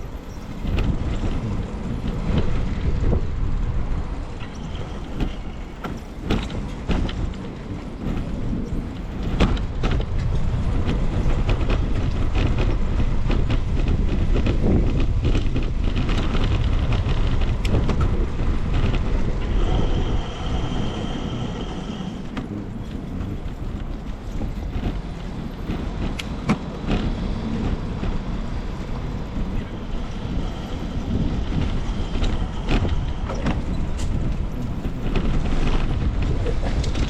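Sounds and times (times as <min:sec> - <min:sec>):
bicycle rattling over road: 0:00.0 - 0:37.0
low traffic rumble: 0:00.0 - 0:37.0
wind buffeting the microphone: 0:00.0 - 0:37.0.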